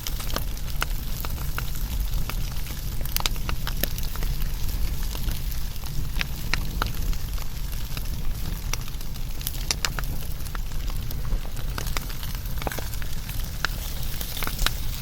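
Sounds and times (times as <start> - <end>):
burning wood popping: 0.0 - 15.0
low rumble and hiss: 0.0 - 15.0
wood fire crackling: 0.0 - 15.0.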